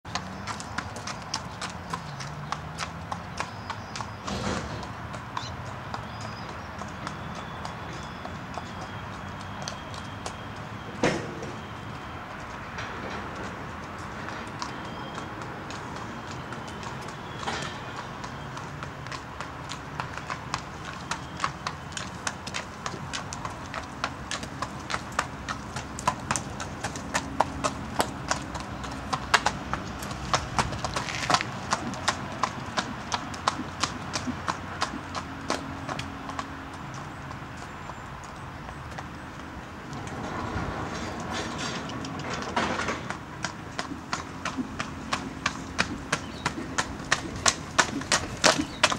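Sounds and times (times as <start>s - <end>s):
horse hooves on hard ground: 0.1s - 48.9s.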